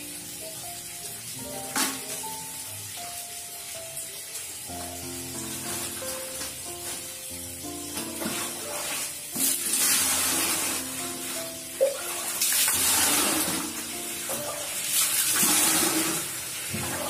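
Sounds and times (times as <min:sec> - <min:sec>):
background music: 0:00.0 - 0:17.0
water running and splashing: 0:00.0 - 0:17.0.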